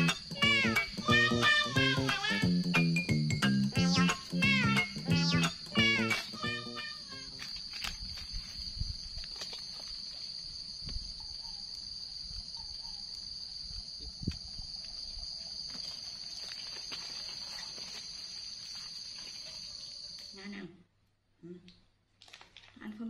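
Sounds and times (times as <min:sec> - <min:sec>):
high-pitched insect chorus: 0:00.0 - 0:20.6.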